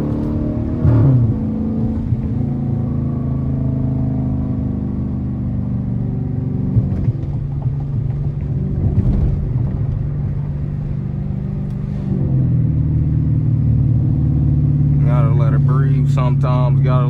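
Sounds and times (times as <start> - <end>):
car engine droning while driving: 0.0 - 17.0.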